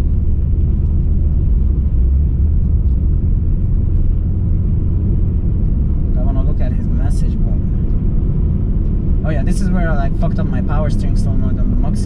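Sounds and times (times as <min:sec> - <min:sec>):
car engine rumble: 0:00.0 - 0:12.0
tyre and road noise: 0:00.0 - 0:12.0.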